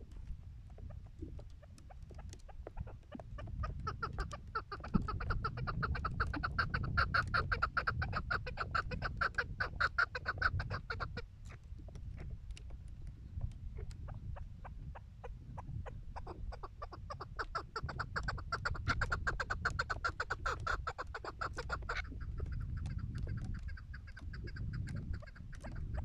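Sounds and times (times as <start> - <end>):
partridges clucking calls: 0.2 - 12.7, 13.3 - 26.0.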